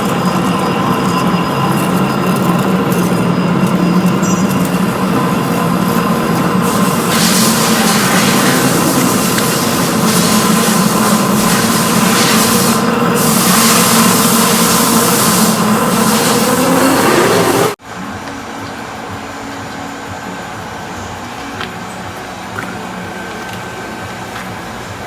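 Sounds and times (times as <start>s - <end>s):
metalworking machine running: 0.0s - 25.0s
quieter machine hum: 0.0s - 25.0s.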